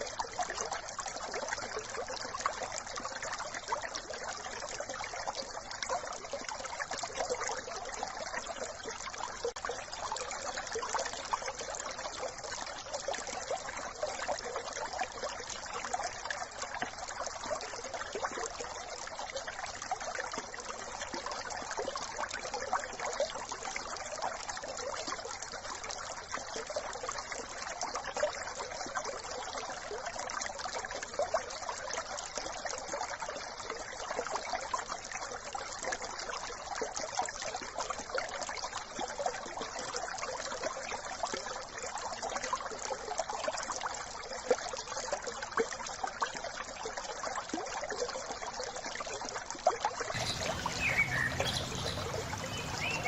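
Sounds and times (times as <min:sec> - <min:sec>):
brook trickling and babbling: 0:00.0 - 0:53.0.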